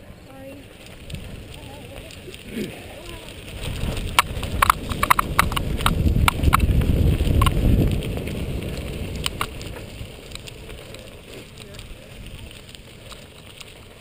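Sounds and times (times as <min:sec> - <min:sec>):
bike rattling over bumps: 0:00.0 - 0:14.0
bike tyres rumbling on dirt: 0:00.0 - 0:14.0.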